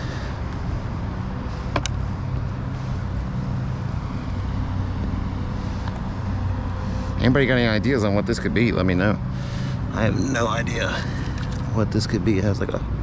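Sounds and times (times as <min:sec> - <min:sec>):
distant engines droning: 0:00.0 - 0:13.0.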